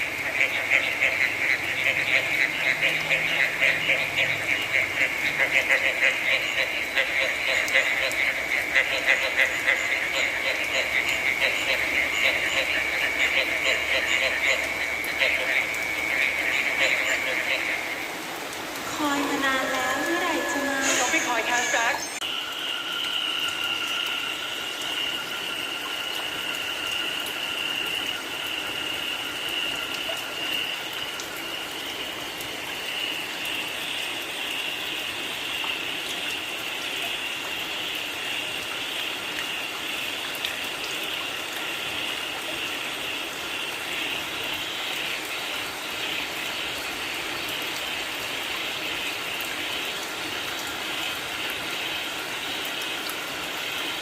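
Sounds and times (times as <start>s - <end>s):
frogs calling: 0.0s - 54.0s
steady rain falling: 0.0s - 54.0s.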